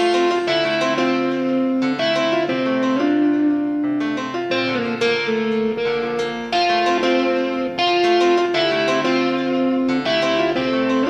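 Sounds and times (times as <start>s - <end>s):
keyboard melody of held notes: 0.0s - 11.0s.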